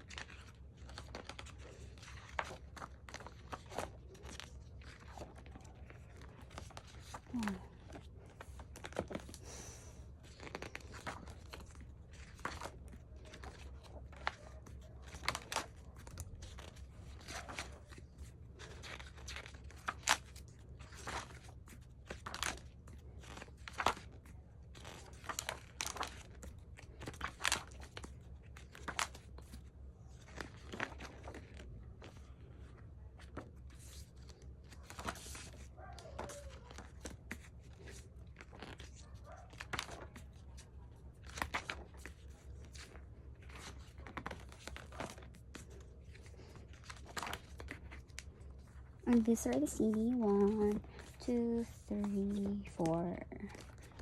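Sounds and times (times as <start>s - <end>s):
faint low hum: 0.0s - 54.0s
paper and plastic rustling: 0.0s - 54.0s.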